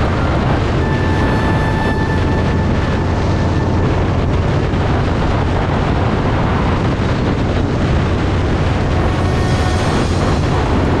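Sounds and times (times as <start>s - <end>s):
wind rush on microphone: 0.0s - 11.0s.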